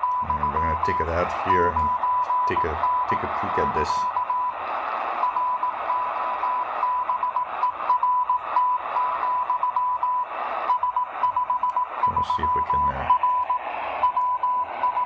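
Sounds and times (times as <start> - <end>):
morse code beeps: 0.0 - 4.6, 5.2 - 15.0
radio hiss: 0.0 - 15.0.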